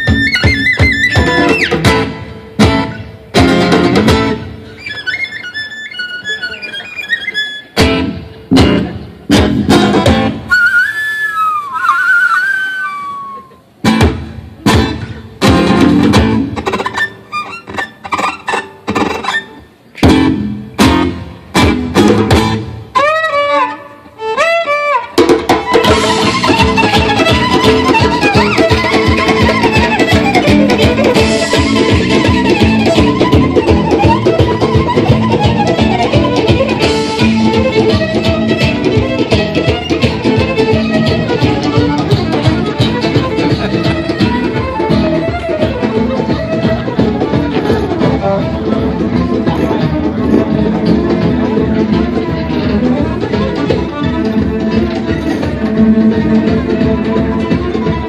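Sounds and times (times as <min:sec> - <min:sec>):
live band playing fast tune: 0:00.0 - 0:58.0.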